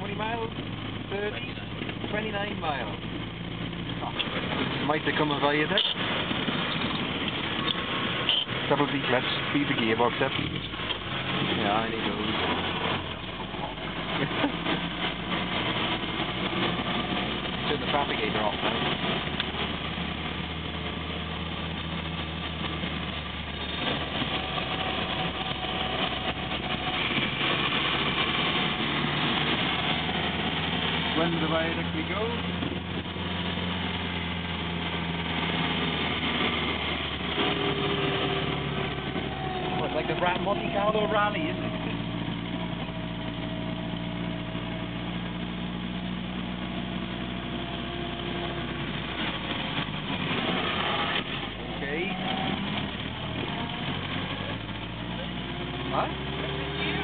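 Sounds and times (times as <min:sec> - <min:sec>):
car engine running: 0:00.0 - 0:57.0
road and wind noise: 0:00.0 - 0:57.0.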